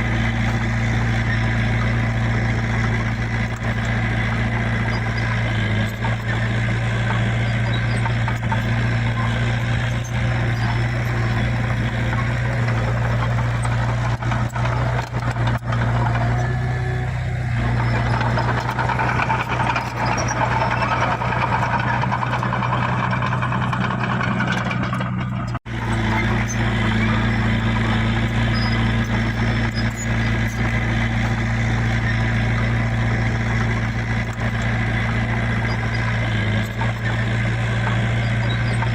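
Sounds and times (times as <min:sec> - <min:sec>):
heavy diesel machinery humming: 0:00.0 - 0:38.9.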